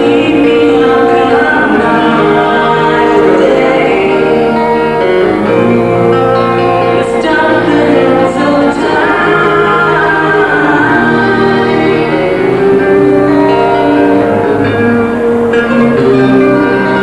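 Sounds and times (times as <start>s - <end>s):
boys singing into microphones: 0.0s - 14.2s
electric guitar: 0.0s - 17.0s.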